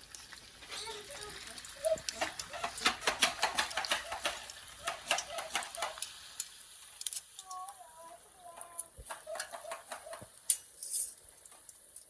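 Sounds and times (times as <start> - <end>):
hot oil crackling and popping: 0.0 - 12.0.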